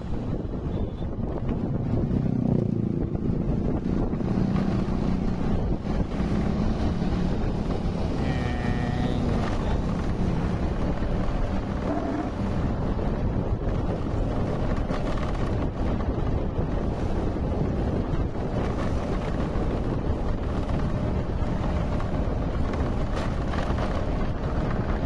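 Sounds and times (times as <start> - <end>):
moving vehicle rumble: 0.0 - 25.0
wind rushing over microphone: 0.0 - 25.0.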